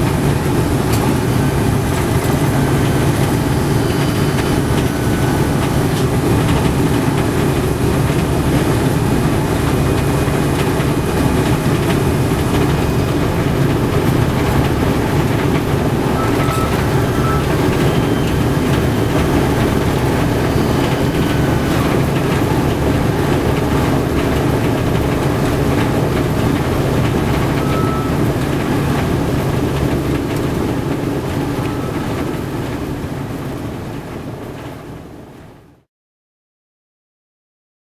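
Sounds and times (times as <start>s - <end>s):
aircraft radial engines droning: 0.0s - 35.5s.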